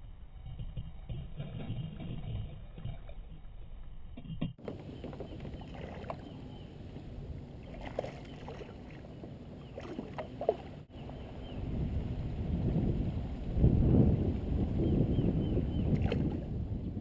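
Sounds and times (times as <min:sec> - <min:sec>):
water and wind rumble: 0:00.0 - 0:17.0.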